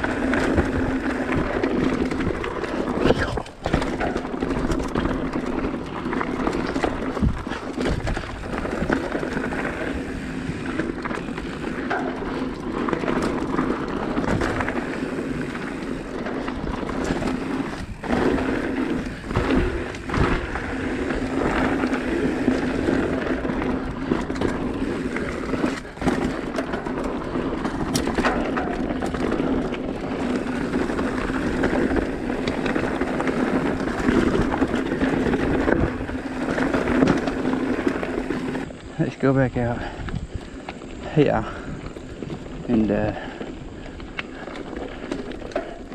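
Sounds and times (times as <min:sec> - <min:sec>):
bike knocking and rattling: 0:00.0 - 0:45.9
bike tyres rolling on rocks: 0:00.0 - 0:45.9.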